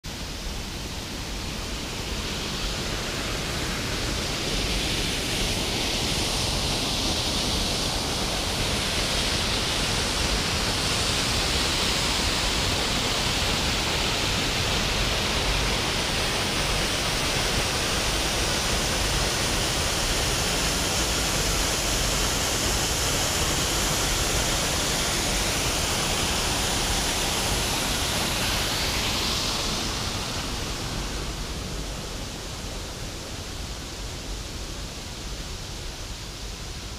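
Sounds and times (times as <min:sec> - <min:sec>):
waterfall rushing: 0:00.1 - 0:36.9.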